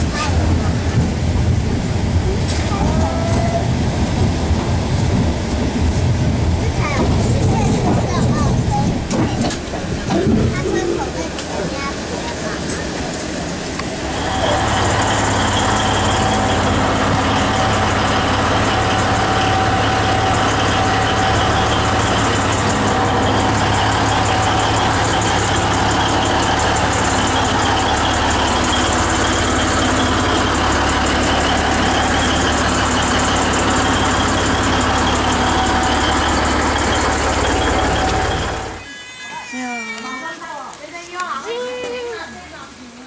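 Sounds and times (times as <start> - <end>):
diesel locomotive idling: 0.0 - 38.9.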